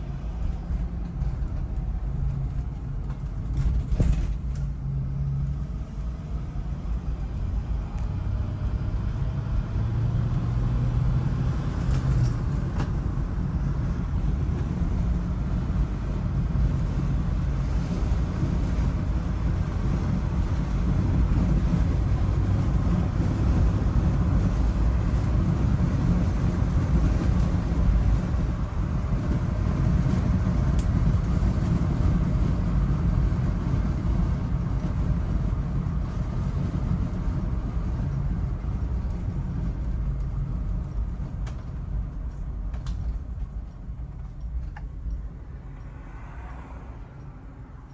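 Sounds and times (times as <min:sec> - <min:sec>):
engine rumble: 0:00.0 - 0:47.9
road noise: 0:00.0 - 0:47.9.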